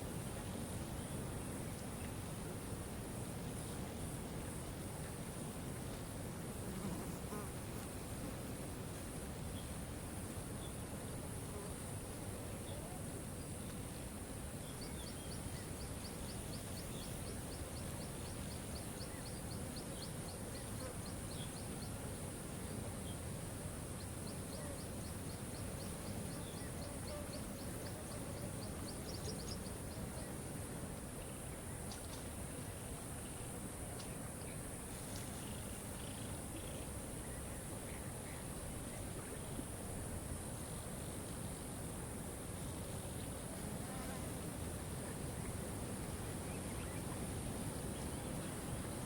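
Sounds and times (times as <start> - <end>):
insects hissing: 3.5 - 49.0.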